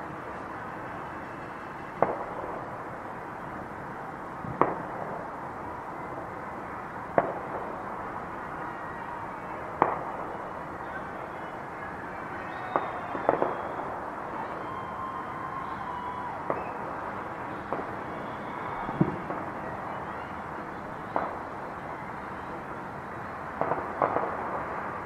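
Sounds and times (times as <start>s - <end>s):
fireworks bangs: 0.0s - 25.0s
steady background hiss: 0.0s - 25.0s.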